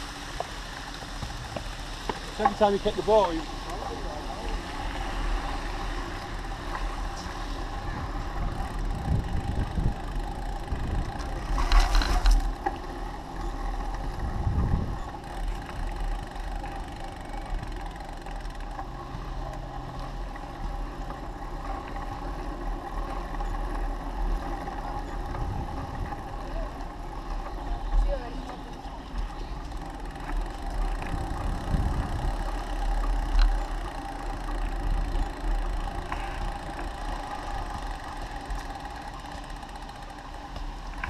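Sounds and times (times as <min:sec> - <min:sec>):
bicycle tyre rumble: 0:00.0 - 0:41.0
wind buffeting camera: 0:04.8 - 0:18.7, 0:21.9 - 0:41.0.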